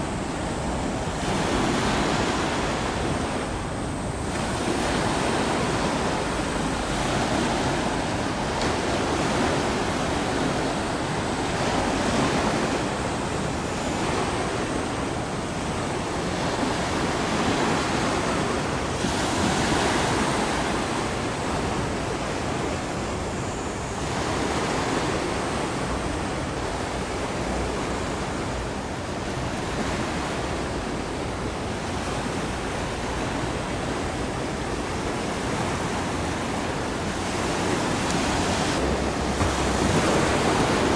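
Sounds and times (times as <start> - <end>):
water on a shoreline: 0.0 - 40.9
wind: 0.0 - 40.9.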